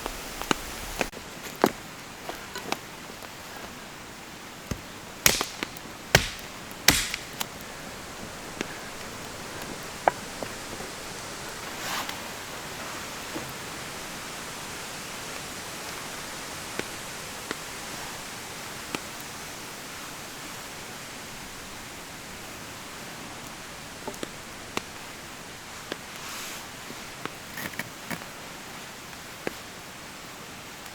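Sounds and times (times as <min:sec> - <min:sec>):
rain falling in forest: 0:00.0 - 0:30.9.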